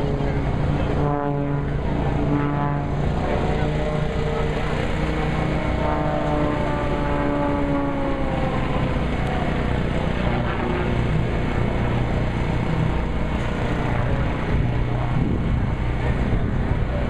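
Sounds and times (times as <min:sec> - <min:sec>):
small plane engine droning overhead: 0:00.0 - 0:17.0.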